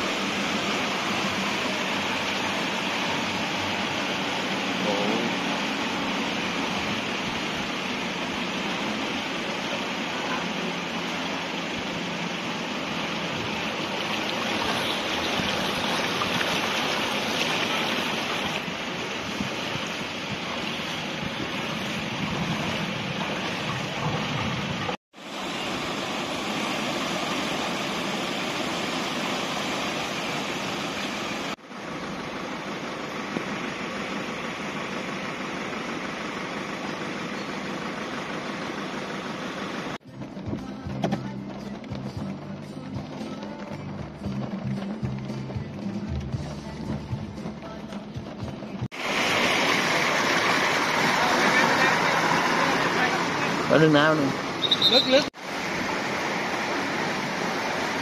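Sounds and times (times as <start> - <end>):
floodwater rushing: 0.0 - 40.0, 48.9 - 58.0.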